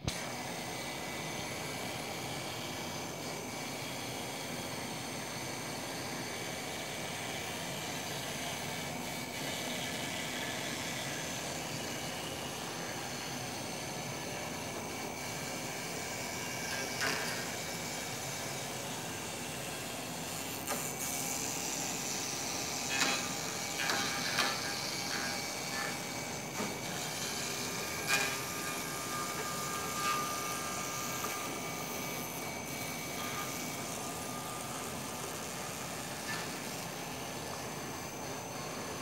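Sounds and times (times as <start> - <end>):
milling machine running: 0.0 - 39.0.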